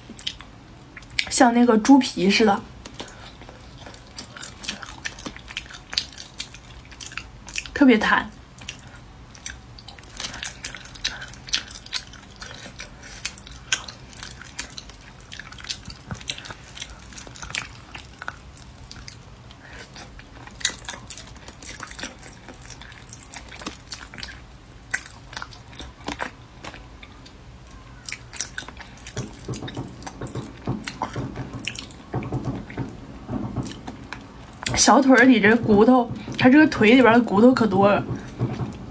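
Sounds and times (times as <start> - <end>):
wet chewing and lip-smacking: 0.0 - 1.4, 2.7 - 38.9.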